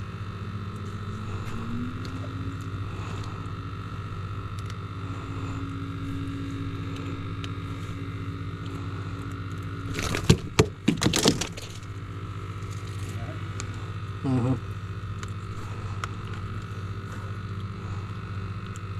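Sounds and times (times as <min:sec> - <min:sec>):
boat motor humming: 0:00.0 - 0:18.9.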